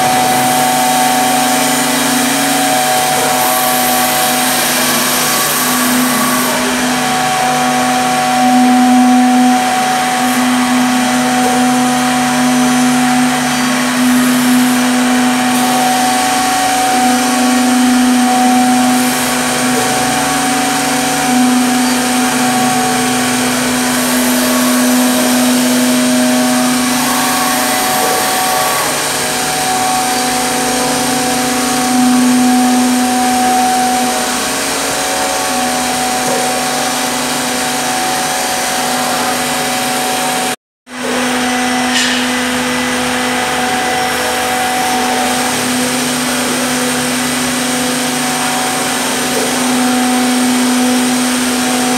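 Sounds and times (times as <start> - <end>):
router spindle whine: 0.0 - 51.9.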